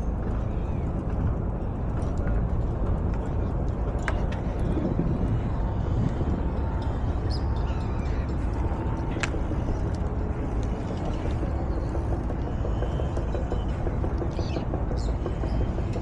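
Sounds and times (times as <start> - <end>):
street rumble and hiss: 0.0 - 16.0.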